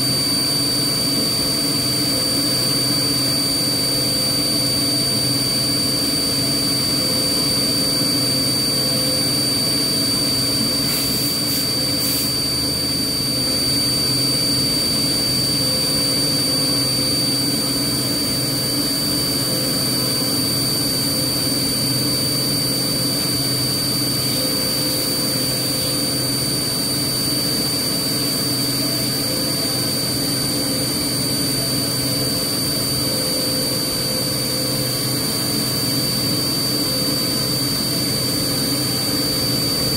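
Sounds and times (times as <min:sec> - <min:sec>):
low machine hum: 0:00.0 - 0:39.9
milling spindle high whine: 0:00.0 - 0:39.9.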